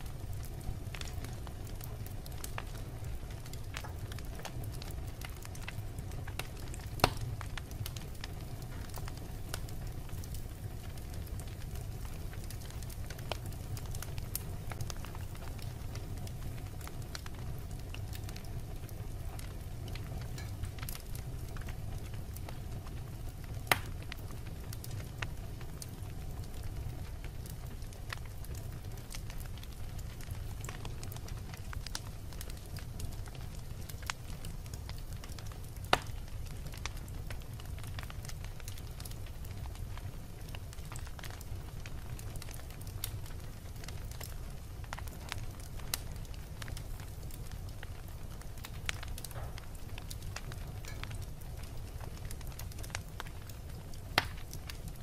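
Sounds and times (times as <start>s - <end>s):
fire crackling: 0.0s - 55.0s
fire rumbling: 0.0s - 55.0s.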